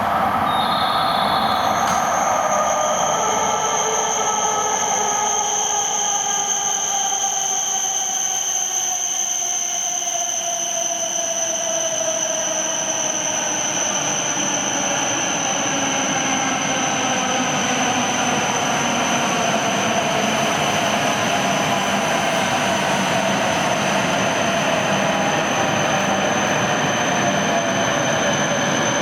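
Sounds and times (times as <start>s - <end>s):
train rolling noise: 0.0s - 29.0s.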